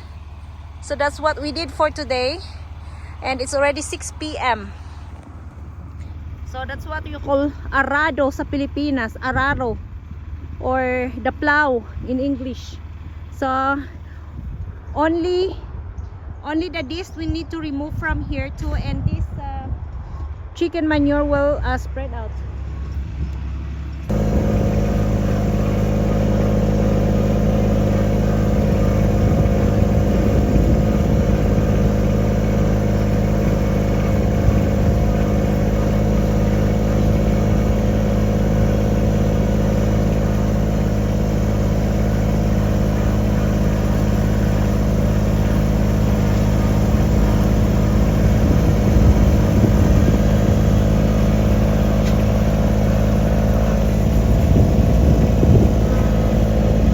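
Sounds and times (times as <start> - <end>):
tractor engine running: 0.0 - 15.6, 22.8 - 56.9.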